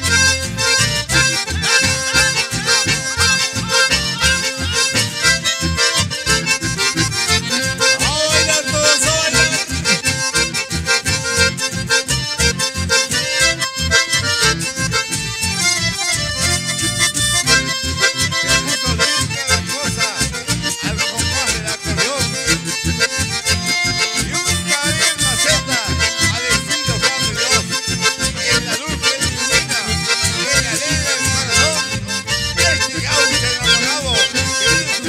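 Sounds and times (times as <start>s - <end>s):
accordions playing: 0.0s - 35.0s
bandoneon: 0.0s - 35.0s
guitar: 0.0s - 35.0s
steady bass beat: 0.0s - 35.0s.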